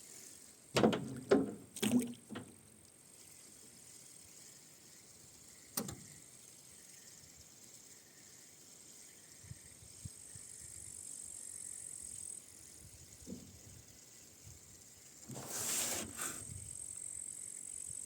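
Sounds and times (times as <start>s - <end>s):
faint high hiss: 0.0s - 18.0s.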